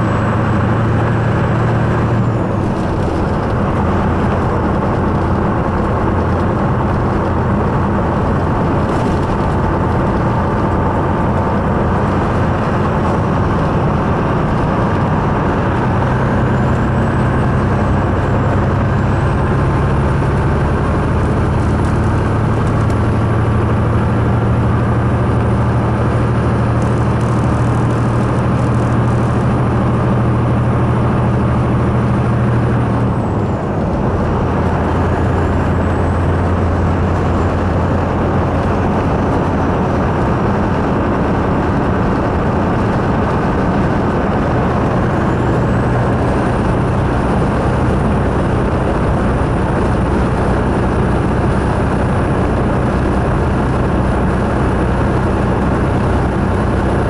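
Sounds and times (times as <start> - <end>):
road noise: 0.0 - 57.0
truck diesel engine droning: 0.0 - 57.0.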